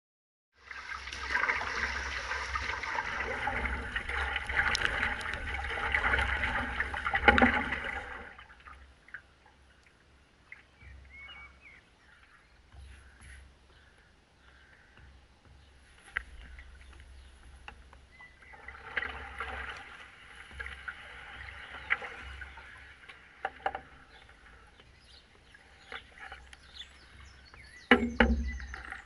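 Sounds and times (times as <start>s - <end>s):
water rushing and splashing: 0.6s - 13.2s, 15.8s - 29.0s
water lapping and dripping: 0.6s - 29.0s.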